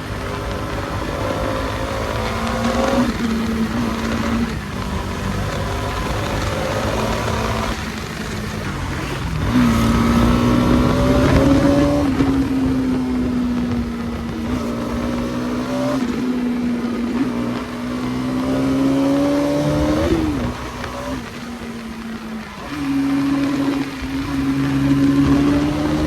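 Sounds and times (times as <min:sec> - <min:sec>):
motorcycle engine running: 0:00.0 - 0:26.0
wind and road rush: 0:00.0 - 0:26.0.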